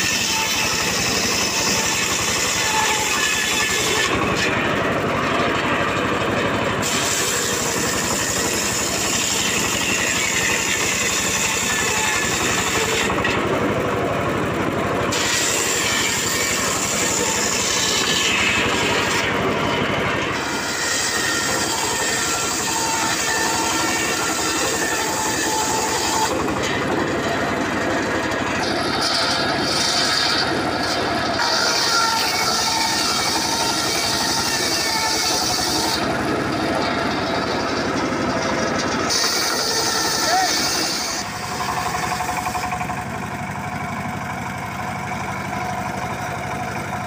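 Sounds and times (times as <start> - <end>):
circular saw cutting wood: 0.0 - 47.0.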